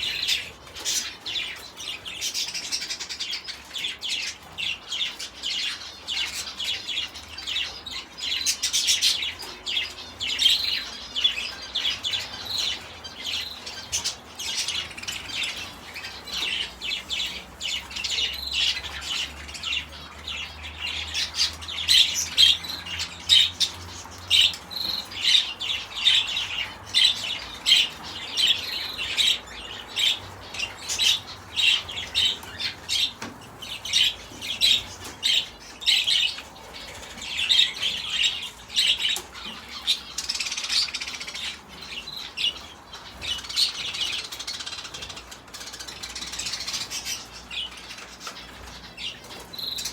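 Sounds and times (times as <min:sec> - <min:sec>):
cage birds chirping: 0:00.0 - 0:49.9.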